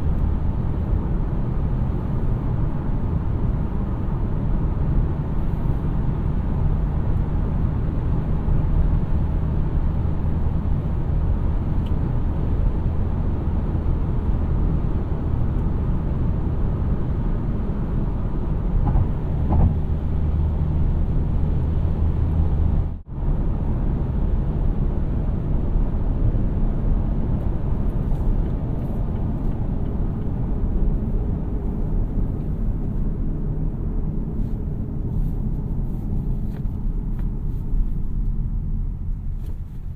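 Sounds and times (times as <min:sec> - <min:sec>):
car engine hum: 0:00.0 - 0:39.9
tyre road rumble: 0:00.0 - 0:39.9.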